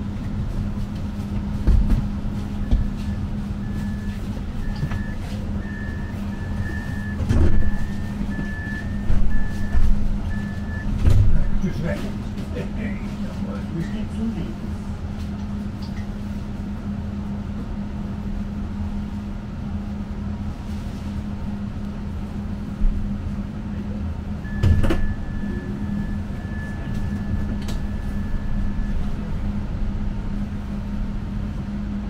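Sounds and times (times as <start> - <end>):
tram electric hum and rumble: 0.0 - 32.0.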